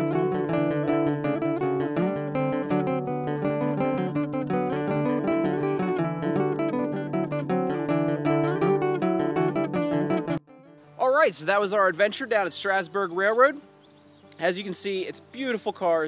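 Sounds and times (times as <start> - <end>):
acoustic guitar playing: 0.0 - 16.0.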